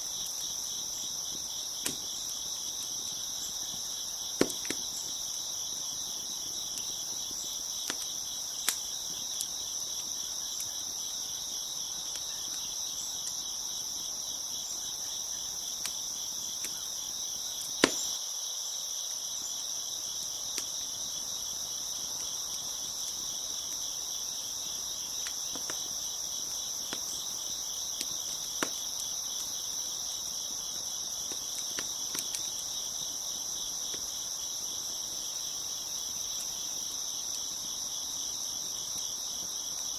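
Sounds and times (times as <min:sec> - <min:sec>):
wood fire popping and crackling: 0:00.0 - 0:18.2, 0:20.1 - 0:39.9
crickets chirping: 0:00.0 - 0:39.9.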